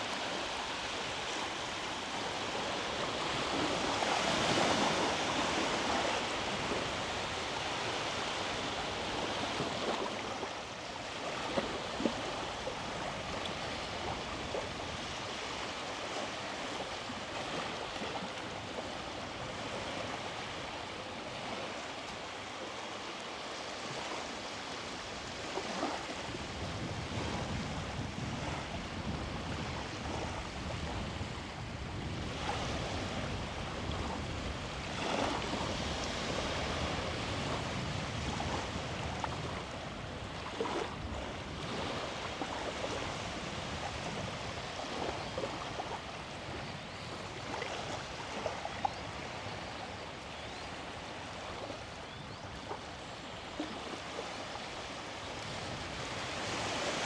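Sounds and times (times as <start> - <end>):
sea waves washing onto beach: 0.0 - 52.0, 52.6 - 57.0.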